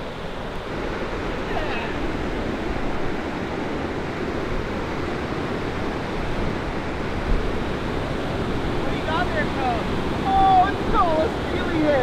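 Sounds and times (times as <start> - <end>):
fast river water rushing: 0.0 - 12.0.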